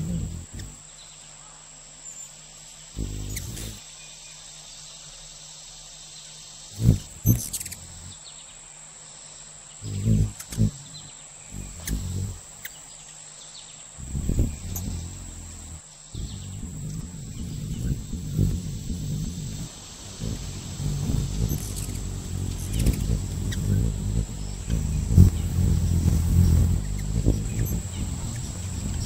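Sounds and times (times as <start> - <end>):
hummingbird wings humming: 0.0 - 1.1, 2.1 - 3.9, 6.5 - 8.4, 9.7 - 29.0
high-pitched insect trill: 0.0 - 29.0.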